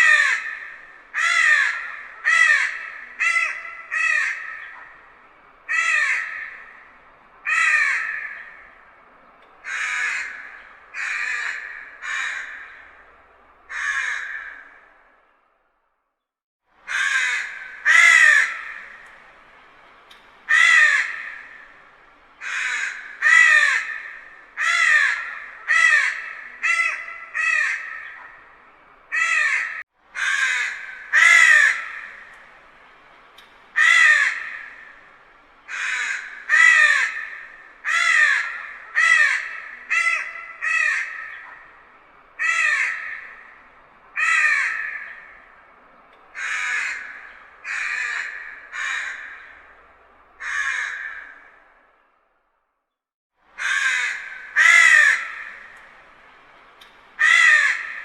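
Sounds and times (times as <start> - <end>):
distant crow cawing: 0.0 - 15.2, 16.8 - 52.2, 53.6 - 58.0.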